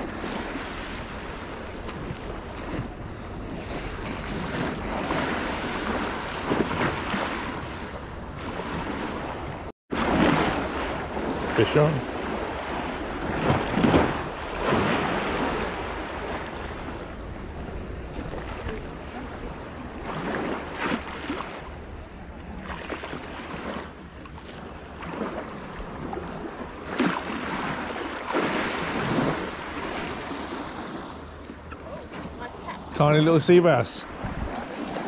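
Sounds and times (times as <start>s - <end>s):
wind buffeting microphone: 0.0s - 33.0s, 34.0s - 35.0s
sea waves washing ashore: 0.0s - 35.0s.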